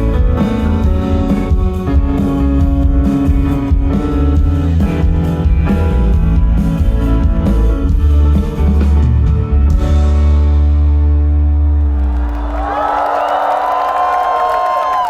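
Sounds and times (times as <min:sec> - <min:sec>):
pop band playing live: 0:00.0 - 0:12.8.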